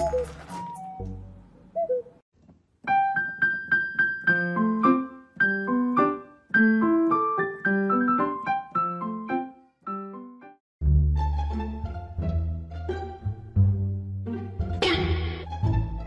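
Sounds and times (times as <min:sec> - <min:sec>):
piano music: 0:02.8 - 0:16.0.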